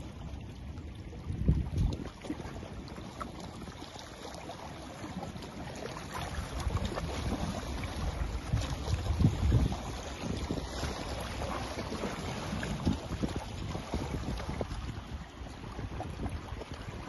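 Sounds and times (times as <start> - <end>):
wind buffeting microphone: 0.2 - 3.8, 5.6 - 17.0
waves lapping on pebbly shore: 1.3 - 17.0.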